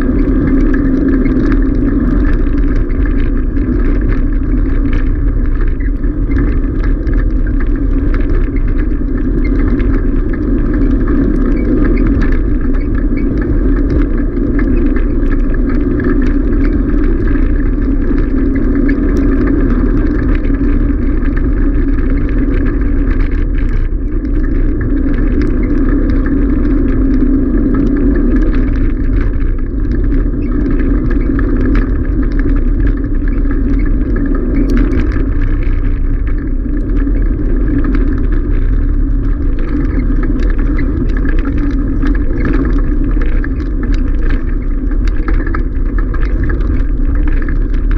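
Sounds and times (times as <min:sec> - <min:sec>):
bicycle tyres rolling on gravel: 0:00.0 - 0:47.9
wind noise on microphone: 0:00.0 - 0:47.9.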